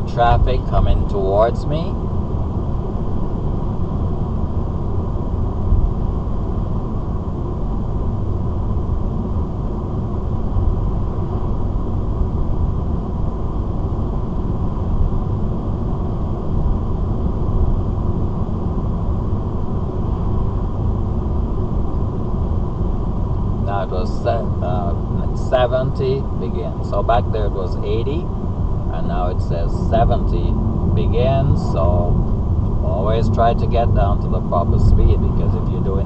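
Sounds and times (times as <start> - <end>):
tyre and engine rumble in car: 0.0 - 36.0.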